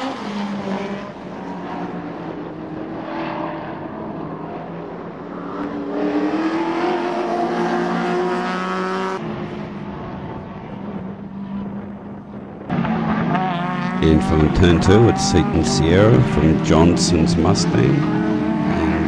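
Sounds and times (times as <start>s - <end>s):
cars running at steady pitch: 0.0s - 19.0s
racing car engines accelerating: 0.0s - 19.0s.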